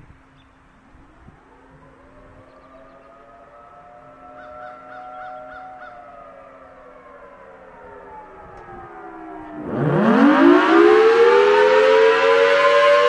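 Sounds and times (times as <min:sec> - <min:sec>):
siren tones sliding down: 0:01.1 - 0:13.0
siren winding up to two-tone wail: 0:01.2 - 0:13.0.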